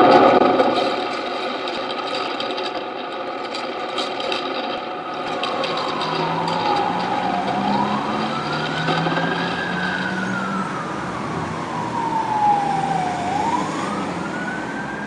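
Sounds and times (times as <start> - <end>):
wailing siren: 0.0 - 15.0.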